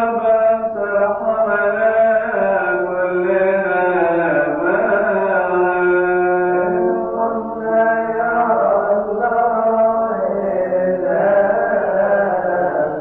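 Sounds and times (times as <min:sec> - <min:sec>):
man singing liturgical chant: 0:00.0 - 0:13.0.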